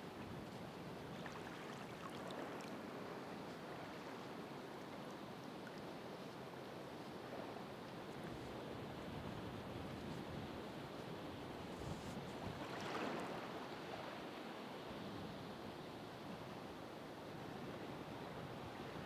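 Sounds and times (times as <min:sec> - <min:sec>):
ocean waves washing ashore: 0:00.0 - 0:19.0.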